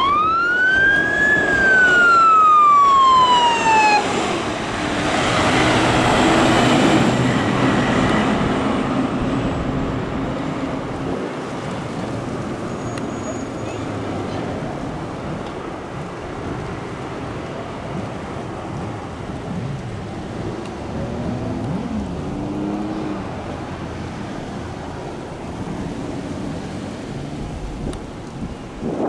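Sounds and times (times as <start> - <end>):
fire truck engines running: 0.0 - 29.0
low traffic rumble: 0.0 - 29.0.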